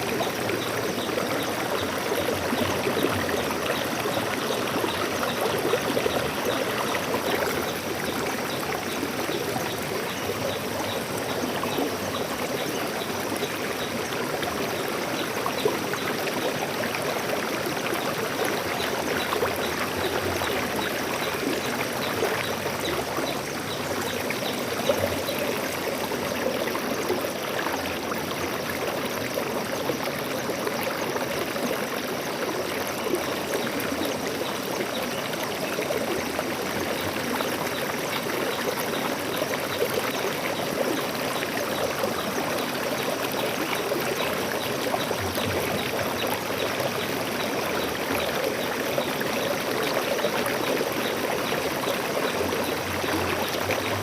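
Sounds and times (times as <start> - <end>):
stream water splashing over rocks: 0.0 - 54.0.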